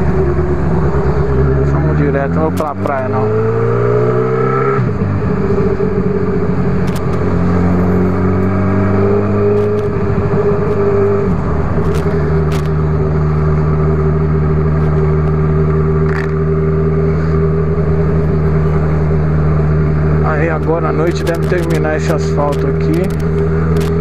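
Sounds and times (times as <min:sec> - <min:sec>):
motorcycle engine cruising: 0:00.0 - 0:24.0
rushing wind: 0:00.0 - 0:24.0.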